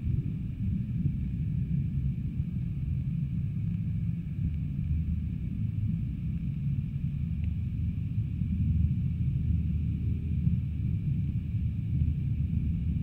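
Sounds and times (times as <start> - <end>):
faint steady hum: 0.0 - 13.0
muffled underwater rumble: 0.0 - 13.0.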